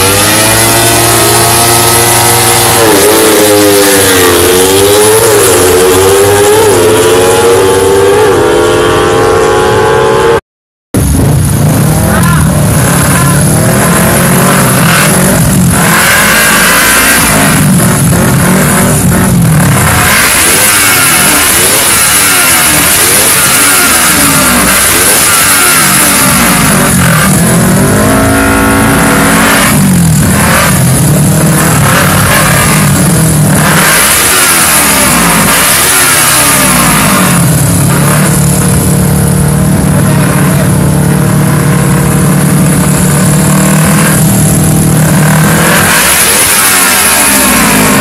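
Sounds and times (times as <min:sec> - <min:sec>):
motorcycle engines revving: 0:00.0 - 0:10.4, 0:11.0 - 0:48.0.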